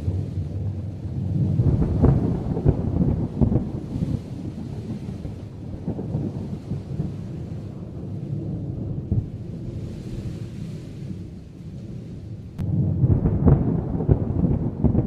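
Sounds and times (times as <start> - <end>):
rolling thunder: 0.0 - 15.0.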